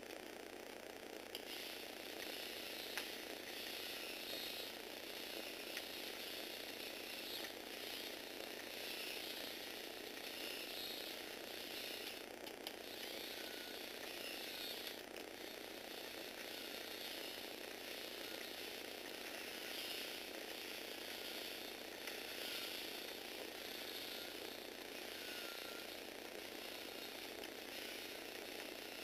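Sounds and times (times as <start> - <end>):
gearbox motors whirring: 0.0 - 29.0.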